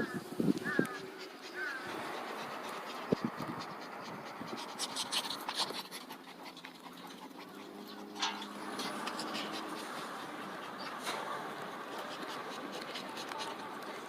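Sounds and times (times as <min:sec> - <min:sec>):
dog panting: 0:00.6 - 0:14.0.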